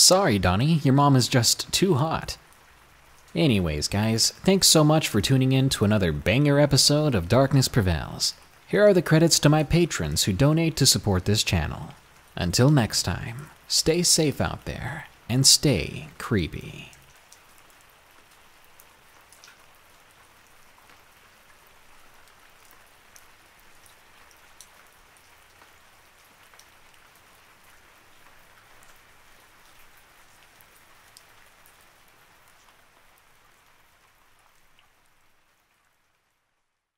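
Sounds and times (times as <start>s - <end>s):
rain hissing: 0.0s - 31.3s
raindrop ticks: 0.1s - 35.4s.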